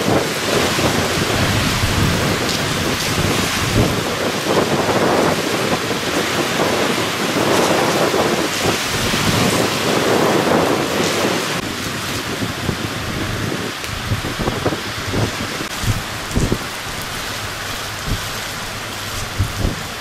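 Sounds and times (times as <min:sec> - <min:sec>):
heavy rain on pavement: 0:00.0 - 0:20.0.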